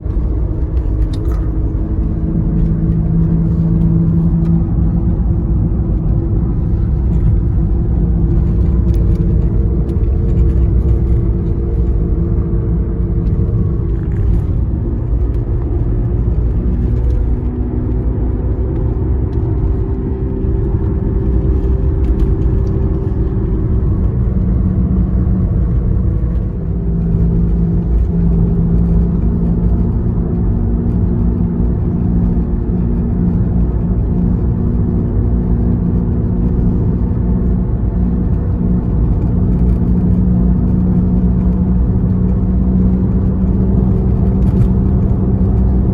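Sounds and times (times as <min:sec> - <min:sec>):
car whine: 0:00.0 - 0:45.9
low road rumble: 0:00.0 - 0:45.9.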